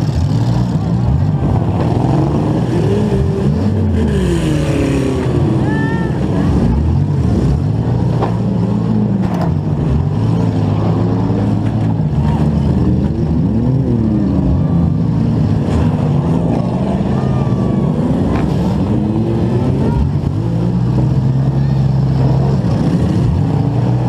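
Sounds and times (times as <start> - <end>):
car engine revving: 0.0 - 24.0
other car engines running: 0.0 - 24.0.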